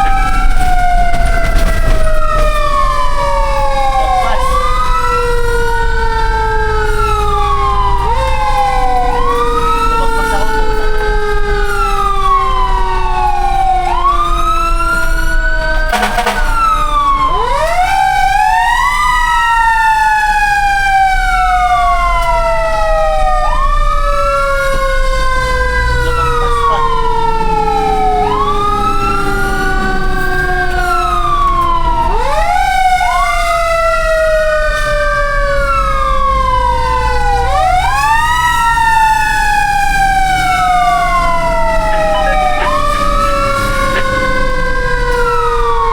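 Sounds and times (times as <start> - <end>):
fire truck sirens wailing: 0.0 - 45.9.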